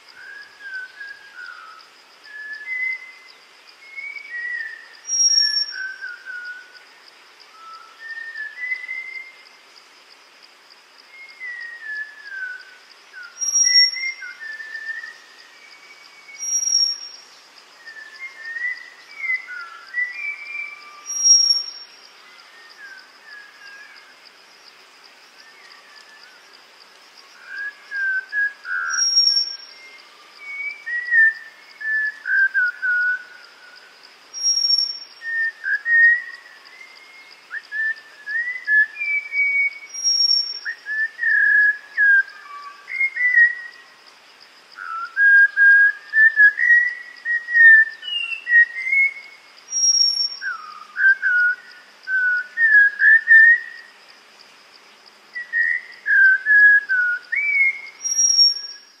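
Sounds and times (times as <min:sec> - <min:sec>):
thrush singing whistled phrases: 0:00.0 - 0:06.9, 0:07.5 - 0:09.4, 0:11.1 - 0:24.2, 0:27.3 - 0:44.0, 0:44.7 - 0:54.0, 0:55.3 - 0:59.0.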